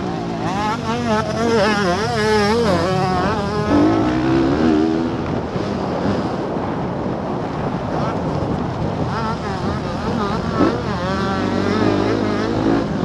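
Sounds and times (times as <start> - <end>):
motocross bike engine revving: 0.0 - 6.6, 9.0 - 13.0.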